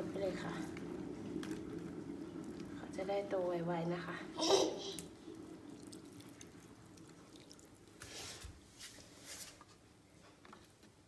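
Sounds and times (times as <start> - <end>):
soft splashes and drips: 0.0 - 9.6
water trickling onto soil: 0.0 - 9.6.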